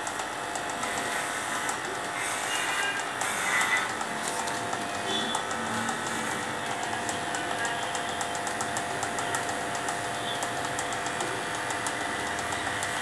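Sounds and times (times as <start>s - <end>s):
electric hair clippers humming: 0.0s - 13.0s.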